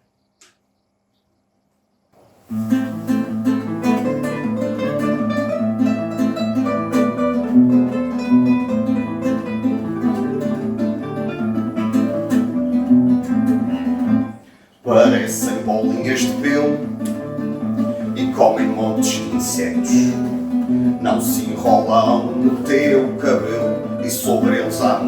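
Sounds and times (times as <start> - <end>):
acoustic guitar picking: 2.5 - 25.0.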